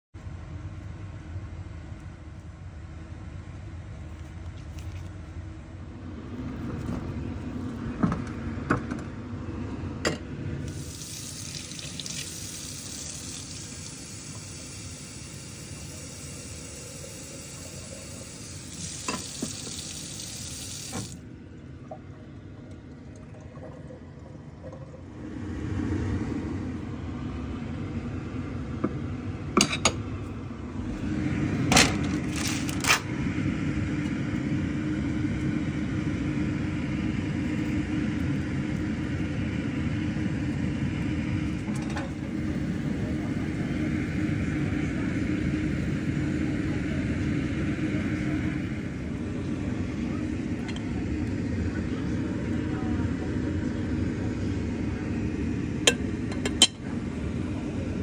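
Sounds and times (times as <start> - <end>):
steady low hum: 0.2 - 58.0.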